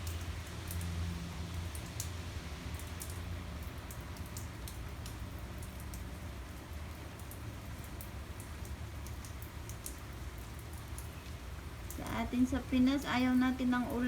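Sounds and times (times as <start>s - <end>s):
drips ticking on a surface: 0.0s - 14.0s
rain falling: 0.0s - 14.0s.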